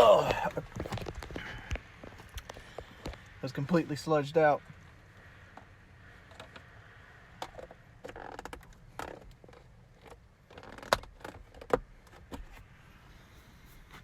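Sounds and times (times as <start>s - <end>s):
handling clicks and rustling: 0.0s - 6.7s, 7.4s - 12.8s.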